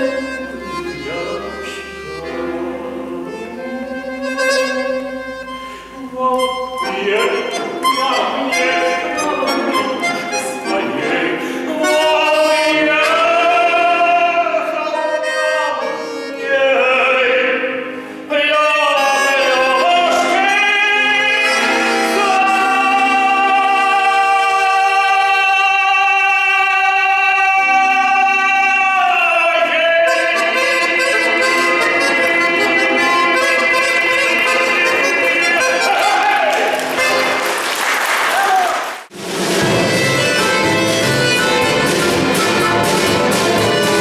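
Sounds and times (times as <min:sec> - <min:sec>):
man singing operatically: 0:00.0 - 0:37.1
accordion: 0:00.0 - 0:37.8, 0:39.1 - 0:44.0.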